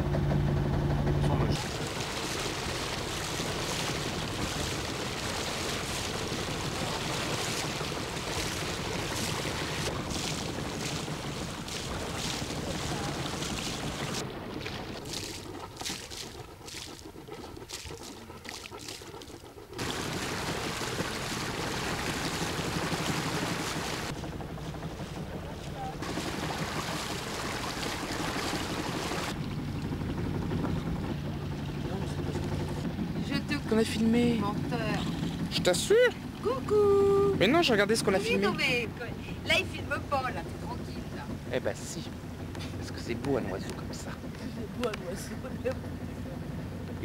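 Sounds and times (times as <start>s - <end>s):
boat motor running: 0.0s - 47.0s
water noise: 0.0s - 47.0s.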